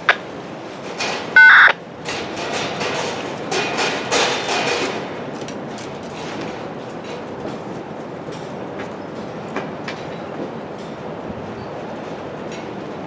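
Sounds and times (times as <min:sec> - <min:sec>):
train wheels clicking over rail joints: 0:00.0 - 0:13.0.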